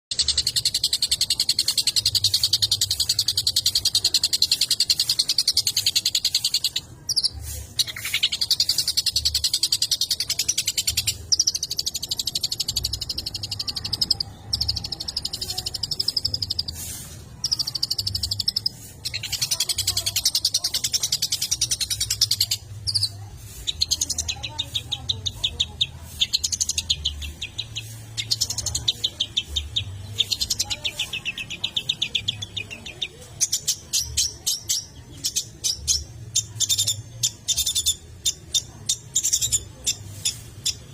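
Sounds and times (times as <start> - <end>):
bird singing buzzy chattering trill: 0.1 - 40.9.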